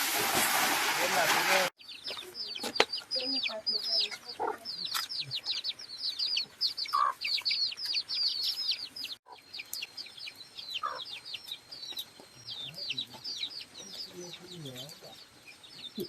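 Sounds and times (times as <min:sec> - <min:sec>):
chickens peeping: 0:01.8 - 0:16.0.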